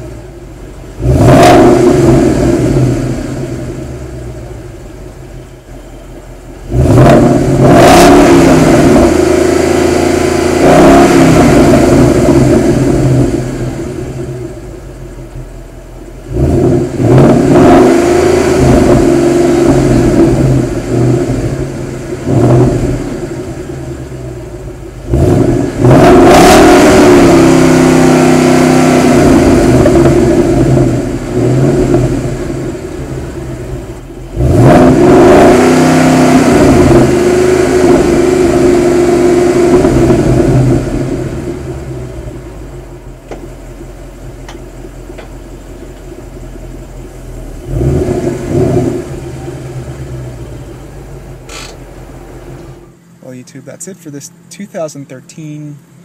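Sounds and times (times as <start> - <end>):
car engine idling: 0.0 - 56.0
car engine revving: 0.0 - 56.0.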